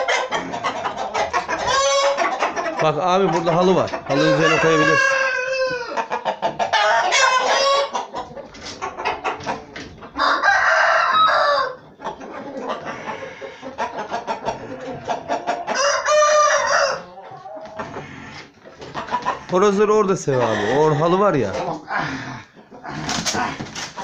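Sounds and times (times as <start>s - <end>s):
roosters crowing: 0.0s - 24.0s.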